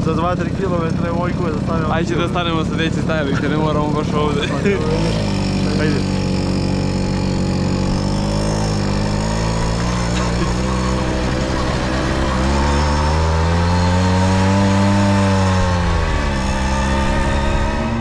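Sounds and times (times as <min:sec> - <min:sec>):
moped two-stroke engine running: 0:00.0 - 0:18.0.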